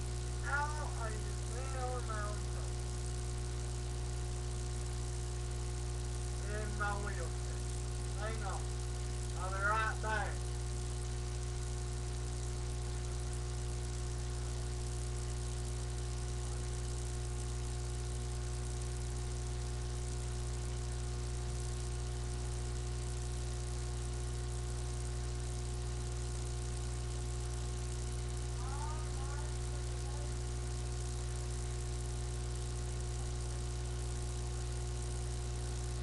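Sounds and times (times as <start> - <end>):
constant hiss: 0.0 - 36.0
electrical mains hum: 0.0 - 36.0.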